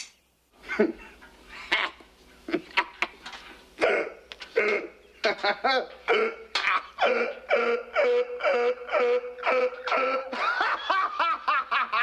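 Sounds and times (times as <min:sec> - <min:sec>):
man laughing uncontrollably: 0:00.6 - 0:03.2, 0:03.8 - 0:12.0.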